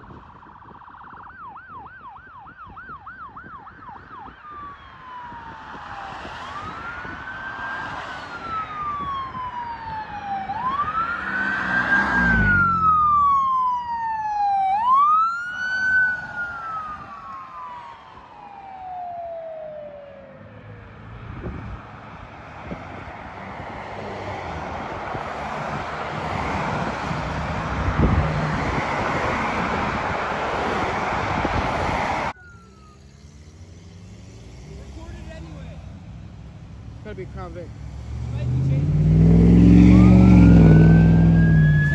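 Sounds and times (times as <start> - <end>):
ambulance siren wailing: 0.0 - 33.9, 38.4 - 41.9
road traffic noise: 0.0 - 41.9.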